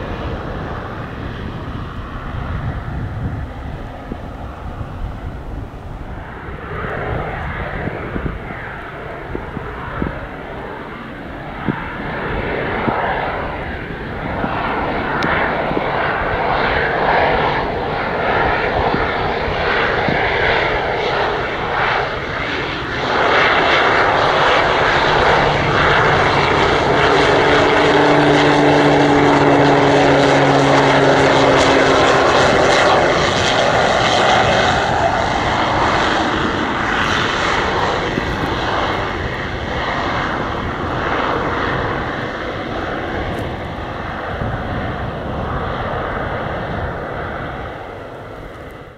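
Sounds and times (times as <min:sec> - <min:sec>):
high turbine whine: 0:00.0 - 0:48.9
turboprop engine and propeller: 0:00.0 - 0:48.9.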